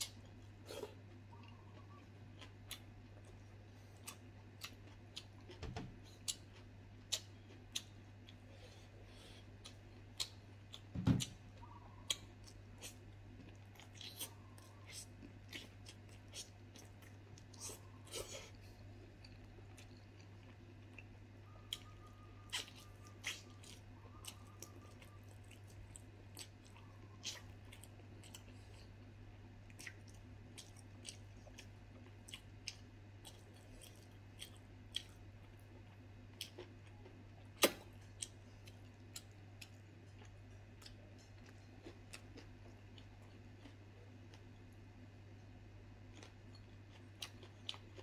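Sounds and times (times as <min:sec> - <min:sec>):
person chewing: 0:00.0 - 0:44.8, 0:46.0 - 0:48.0.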